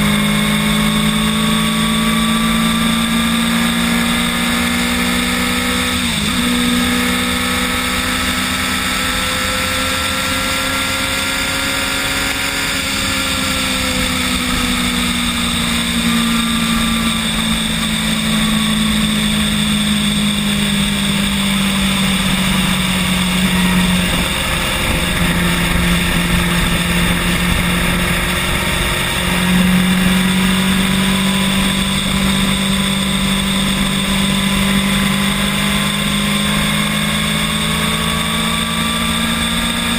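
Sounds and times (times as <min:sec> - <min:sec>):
electric scooter motor whine: 0:00.0 - 0:39.9
wind and road rumble: 0:00.0 - 0:39.9.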